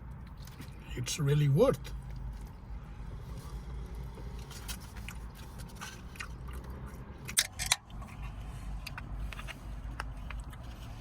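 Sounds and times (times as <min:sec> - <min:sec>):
low steady hum: 0:00.0 - 0:11.0
person chewing food: 0:02.0 - 0:11.0.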